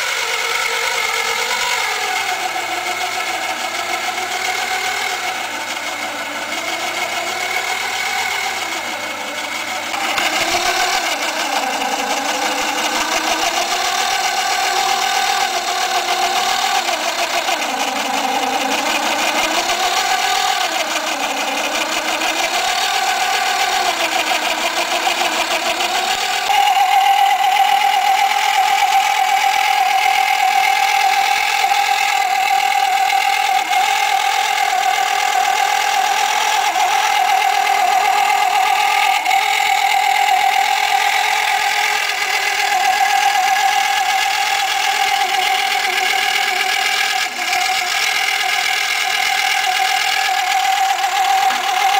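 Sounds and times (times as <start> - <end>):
small electric motor whine: 0.0 - 51.9.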